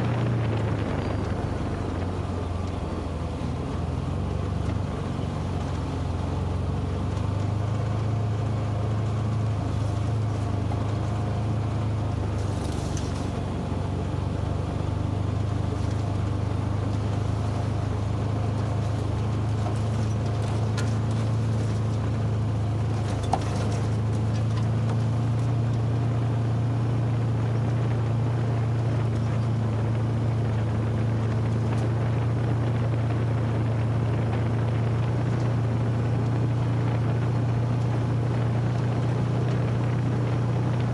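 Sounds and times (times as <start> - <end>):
utility vehicle engine hum: 0.0 - 40.9.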